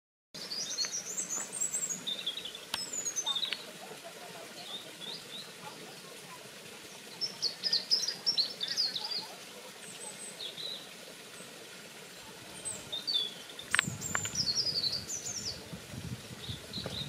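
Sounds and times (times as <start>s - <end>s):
birds chirping and twittering: 0.4s - 17.0s.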